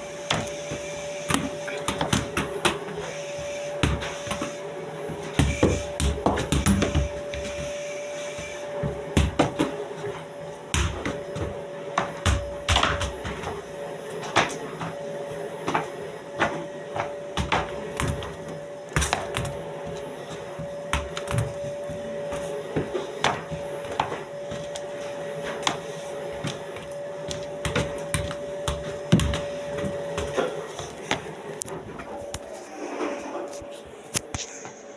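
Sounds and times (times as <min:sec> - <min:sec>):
vacuum cleaner whine: 0:00.0 - 0:34.9.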